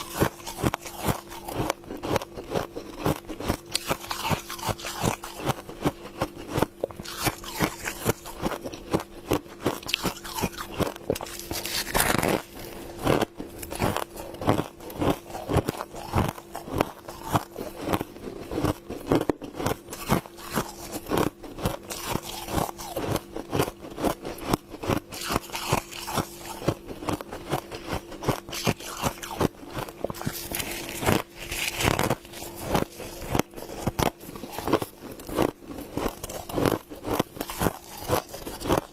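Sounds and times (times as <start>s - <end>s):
crunching and chewing ice: 0.0s - 38.9s
faint steady hum: 0.0s - 38.9s.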